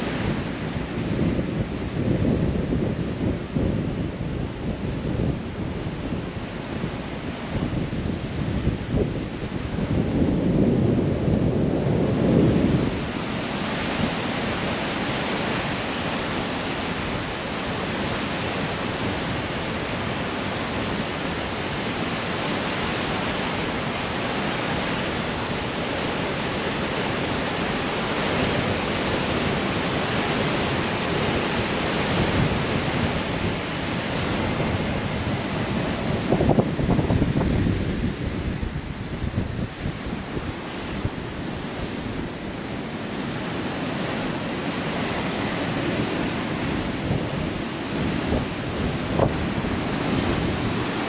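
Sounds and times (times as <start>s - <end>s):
ocean waves breaking: 0.0s - 51.0s
wind buffeting microphone: 0.0s - 51.0s.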